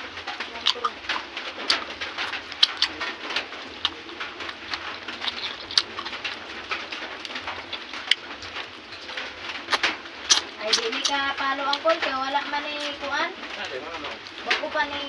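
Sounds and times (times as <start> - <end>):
chewing and mouth noises: 0.0 - 15.0.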